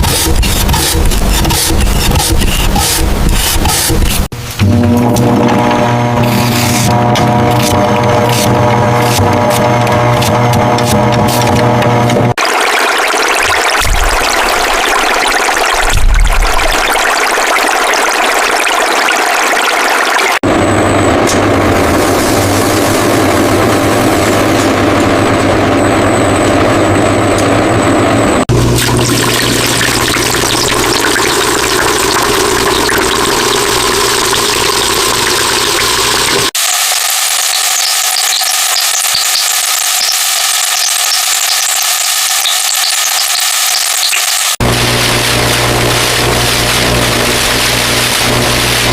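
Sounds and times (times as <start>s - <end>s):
factory machinery running: 0.0s - 48.9s.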